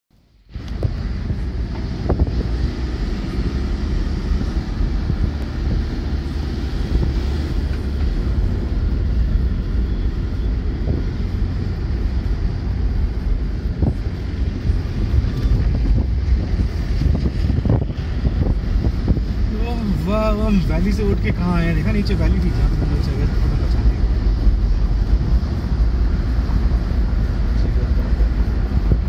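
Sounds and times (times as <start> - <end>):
vehicle driving rumble: 0.1 - 29.0
wind buffeting microphone: 0.5 - 21.4, 22.2 - 29.0.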